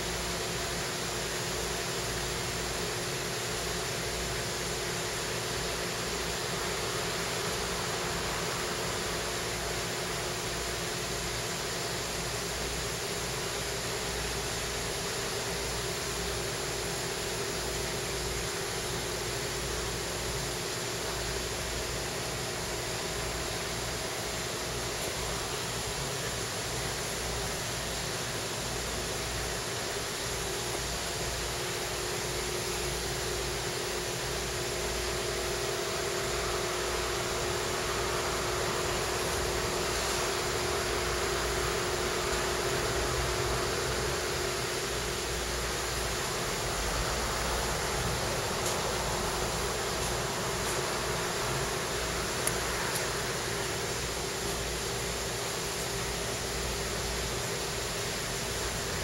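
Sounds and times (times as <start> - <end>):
air conditioning hiss: 0.0 - 59.0
faint steady hum: 0.0 - 59.0.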